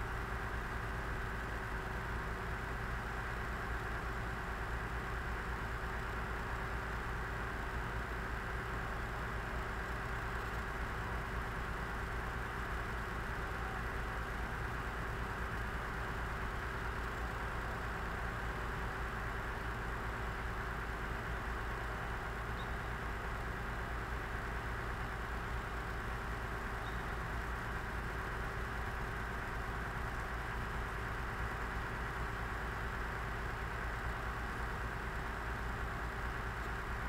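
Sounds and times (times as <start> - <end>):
diesel engine idling: 0.1 - 37.0.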